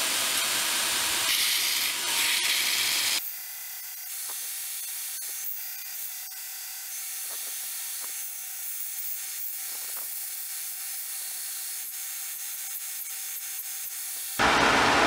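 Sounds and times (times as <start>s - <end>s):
belt grinder grinding steel: 0.0s - 14.5s.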